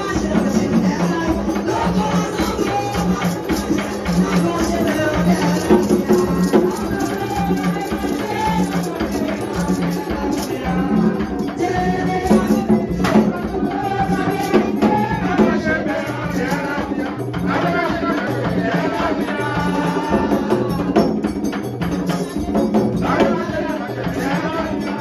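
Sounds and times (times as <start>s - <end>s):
people singing: 0.0s - 25.0s
shaken rattles: 0.0s - 25.0s.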